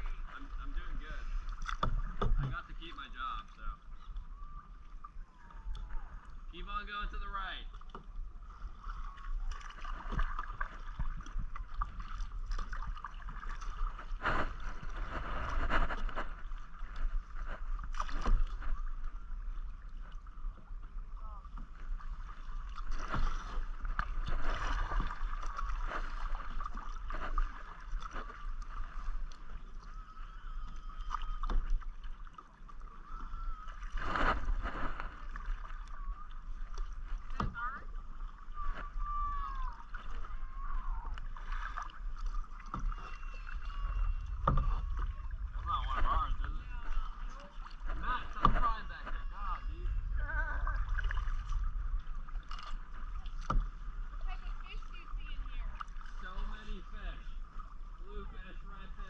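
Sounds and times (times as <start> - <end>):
paddles splashing in water: 0.0 - 59.0.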